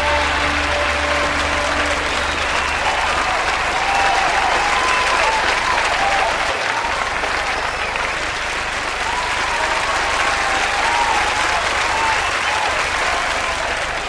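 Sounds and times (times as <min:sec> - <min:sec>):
large audience applauding: 0:00.0 - 0:14.0.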